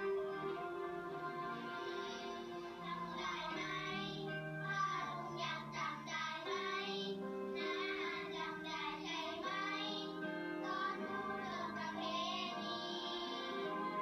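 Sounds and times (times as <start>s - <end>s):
children singing: 0.0s - 14.0s
musical accompaniment: 0.0s - 14.0s.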